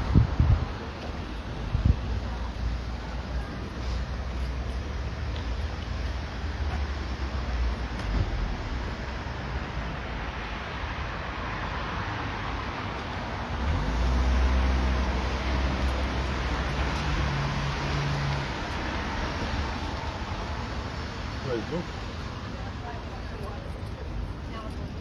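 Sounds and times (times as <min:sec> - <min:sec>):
traffic hum: 0:00.0 - 0:25.0.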